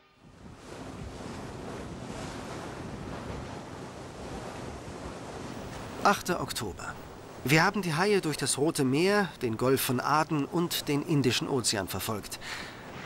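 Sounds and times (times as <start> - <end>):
small waves: 0.0 - 13.0
wind: 0.0 - 13.0.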